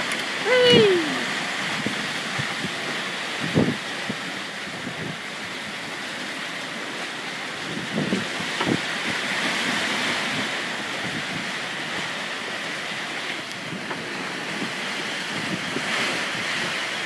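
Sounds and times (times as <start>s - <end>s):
wind buffeting microphone: 0.0s - 6.4s, 7.6s - 12.2s, 13.6s - 17.0s
seawater rushing and churning: 0.0s - 17.0s.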